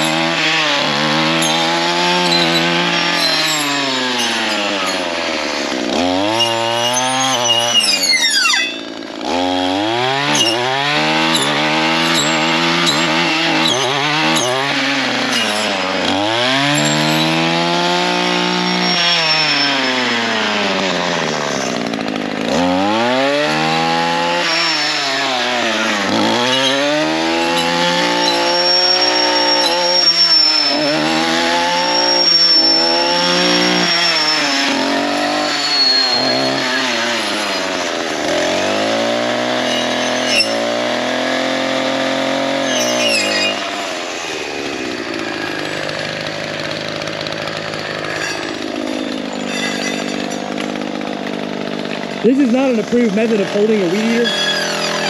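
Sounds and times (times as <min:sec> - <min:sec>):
string trimmer engine revving: 0:00.0 - 0:55.0.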